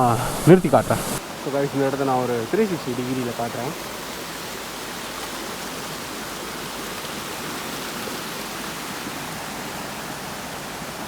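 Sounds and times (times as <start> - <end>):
waterfall and stream rushing: 0.0 - 11.0.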